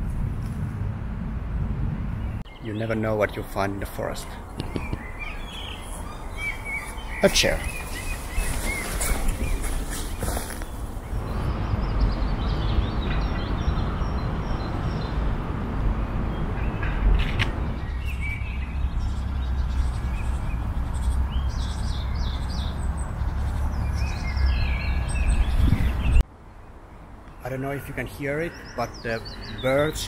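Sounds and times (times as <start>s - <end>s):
small birds chirping: 2.2s - 15.3s, 17.7s - 30.0s.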